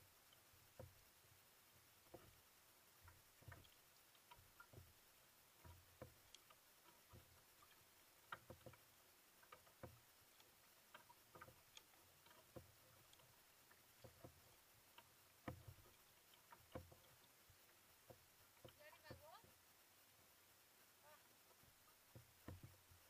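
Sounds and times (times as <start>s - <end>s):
paddle splashing in water: 0.0s - 19.7s, 20.9s - 23.0s.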